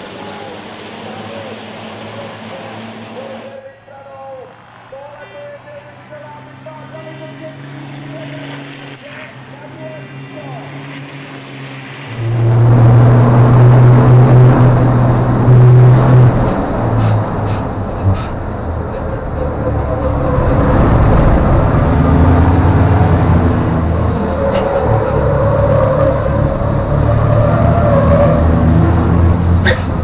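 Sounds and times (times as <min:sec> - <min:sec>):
diesel truck engine drone: 0:00.0 - 0:30.0.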